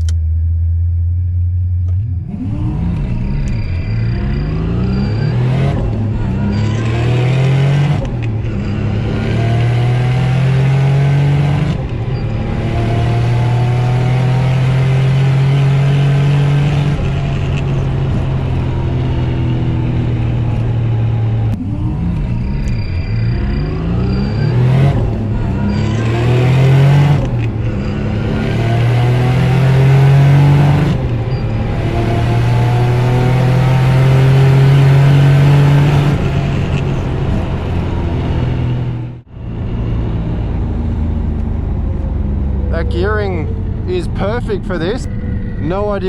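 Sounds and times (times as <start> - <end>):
car engine at full throttle: 0.0 - 46.0
manual gear changes: 1.4 - 39.1.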